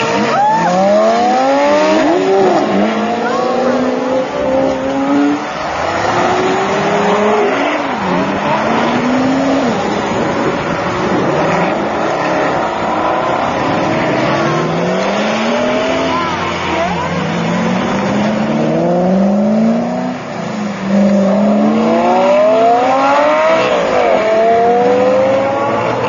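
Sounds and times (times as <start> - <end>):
car engines accelerating: 0.0 - 26.0.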